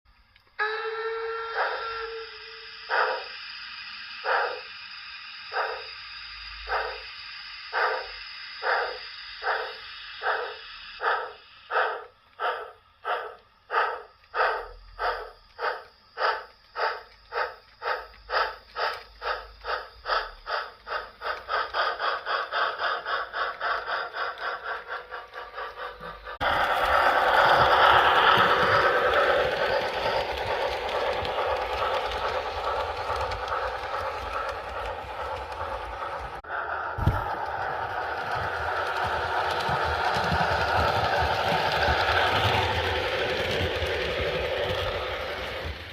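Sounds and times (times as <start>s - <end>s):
steam locomotive chuffing: 0.6s - 45.9s.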